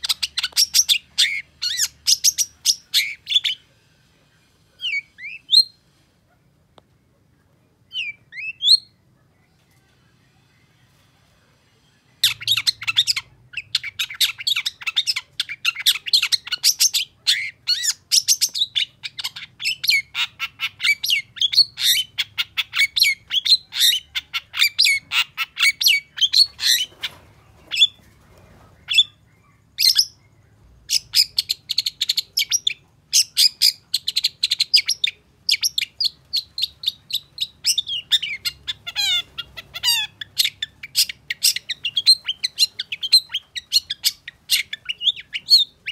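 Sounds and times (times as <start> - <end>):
bird singing rapid chatter: 0.0 - 3.6, 12.1 - 45.9.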